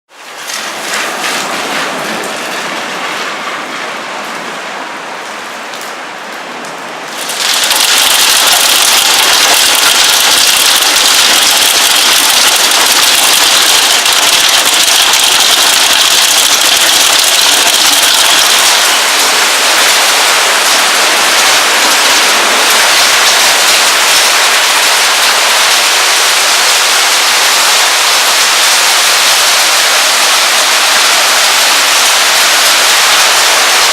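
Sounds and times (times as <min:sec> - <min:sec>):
heavy rain and hail: 0:00.1 - 0:33.9.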